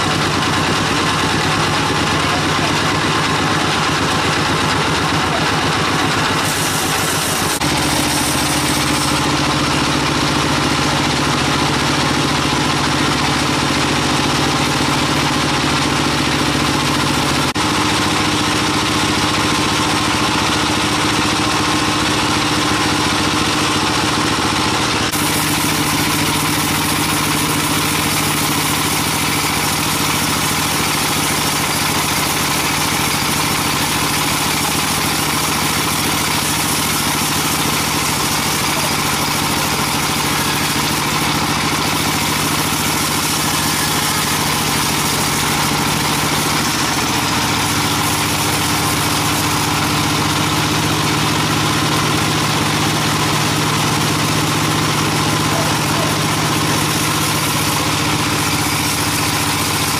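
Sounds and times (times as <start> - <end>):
band sawmill machine drone: 0.0 - 59.9.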